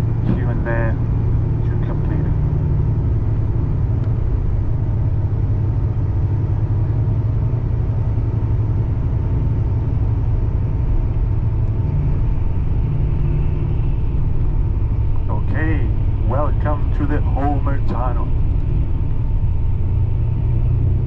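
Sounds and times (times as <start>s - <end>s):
coach engine and road rumble: 0.0s - 21.0s.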